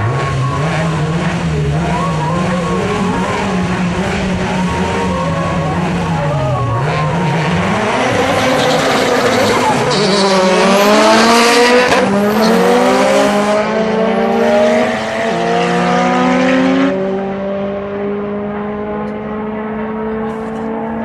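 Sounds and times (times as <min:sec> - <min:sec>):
cars accelerating hard: 0:00.0 - 0:21.0.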